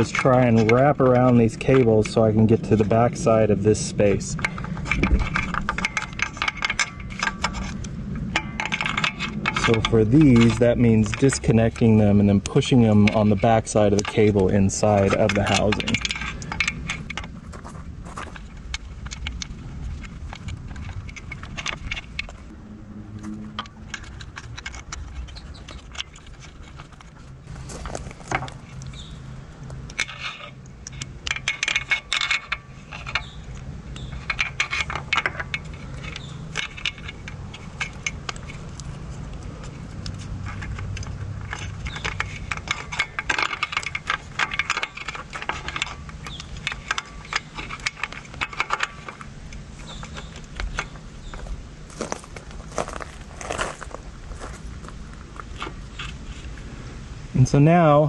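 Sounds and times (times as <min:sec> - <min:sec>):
cables and connectors rattling: 0:00.0 - 0:58.0.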